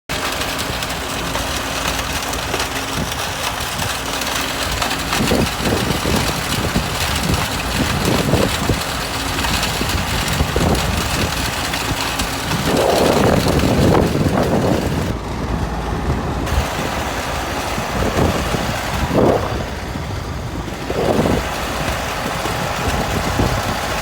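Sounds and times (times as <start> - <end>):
stone crusher droning: 0.1 - 24.0.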